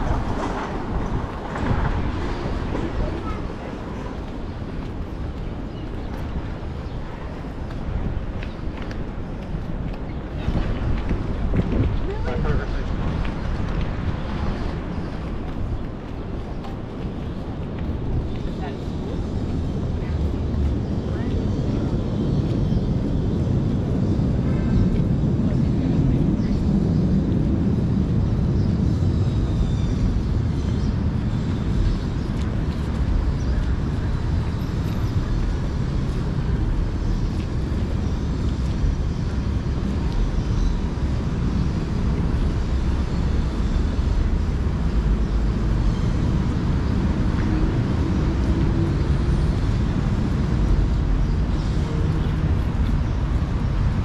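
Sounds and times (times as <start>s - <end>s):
traffic noise: 0.0s - 54.0s
wind buffeting microphone: 0.0s - 54.0s.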